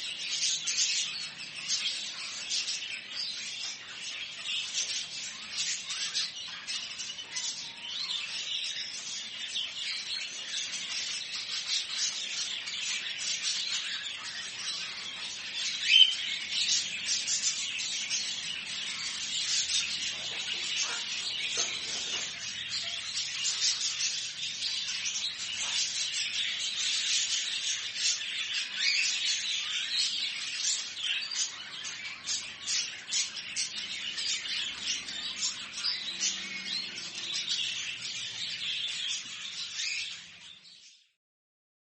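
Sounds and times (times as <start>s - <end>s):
small birds chirping: 0.0s - 41.2s.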